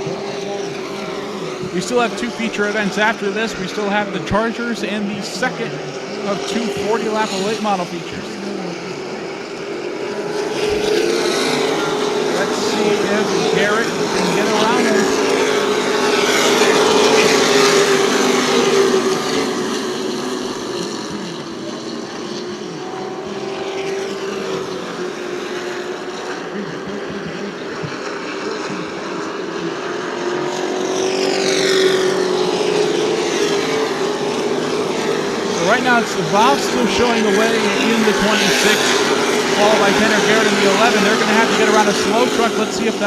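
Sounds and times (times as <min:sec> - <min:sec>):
race truck engines passing: 0:00.0 - 0:43.0.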